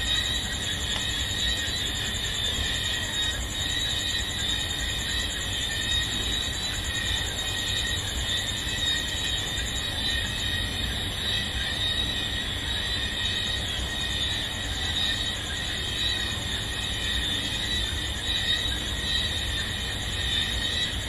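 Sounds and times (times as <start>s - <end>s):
insect chorus shrilling: 0.0s - 21.0s.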